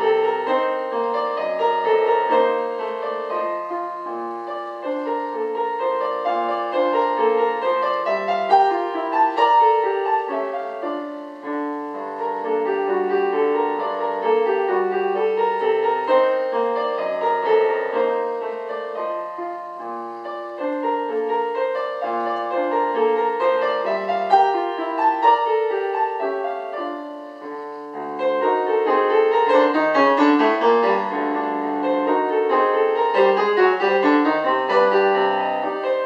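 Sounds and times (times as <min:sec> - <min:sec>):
solo piano classical piece: 0:00.0 - 0:36.0.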